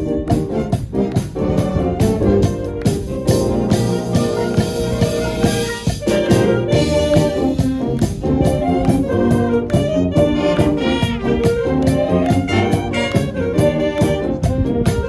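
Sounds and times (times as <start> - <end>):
brass playing a tune: 0.0 - 15.0
snare and bass drum strikes: 0.0 - 15.0.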